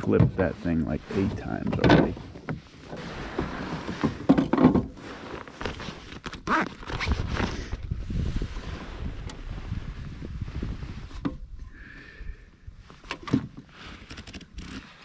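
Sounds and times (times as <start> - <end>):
low wind rumble on microphone: 1.0 - 14.9.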